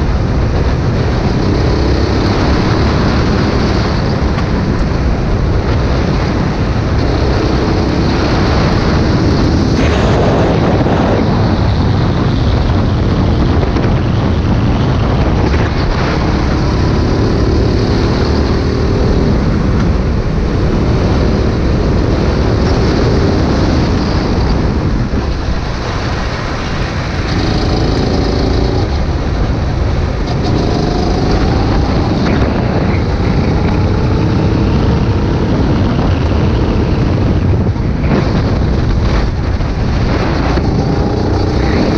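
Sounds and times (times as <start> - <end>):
go-kart engine accelerating: 0.0 - 25.4, 26.5 - 38.5, 39.1 - 41.9
wind and track noise: 0.0 - 41.9.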